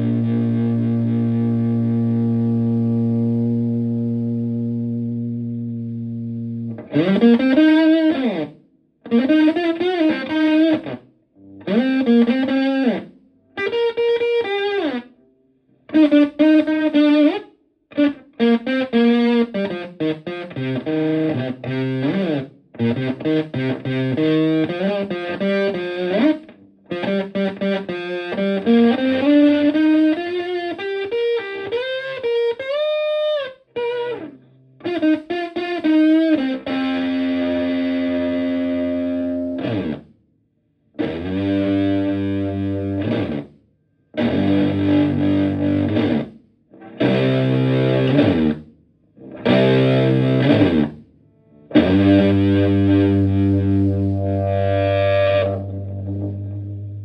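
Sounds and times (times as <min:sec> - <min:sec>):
fuzzed electric guitar: 0:00.0 - 0:15.2, 0:15.9 - 0:40.2, 0:41.0 - 0:43.6, 0:44.2 - 0:57.0.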